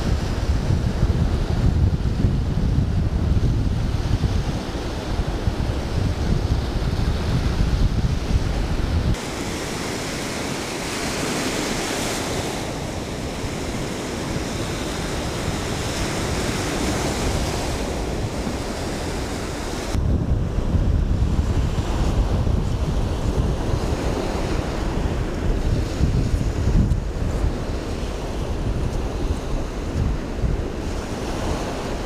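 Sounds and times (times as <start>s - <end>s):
surf washing onto sand: 0.0s - 32.0s
wind buffeting microphone: 0.0s - 32.0s.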